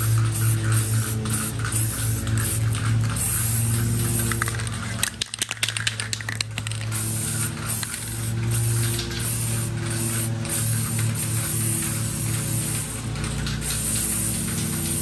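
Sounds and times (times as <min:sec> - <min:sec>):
spray can rattling clicks: 0:00.0 - 0:15.0
spray paint can hissing: 0:00.0 - 0:15.0.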